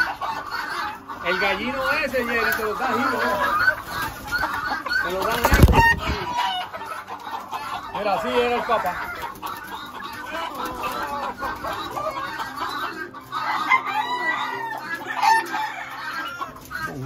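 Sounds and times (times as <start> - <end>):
roosters crowing and clucking: 0.0 - 17.0.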